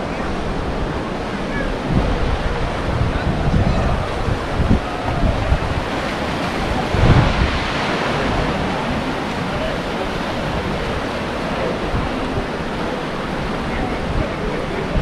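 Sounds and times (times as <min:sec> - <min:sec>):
sea surf on rocky shore: 0:00.0 - 0:15.0
wind buffeting microphone: 0:00.0 - 0:15.0.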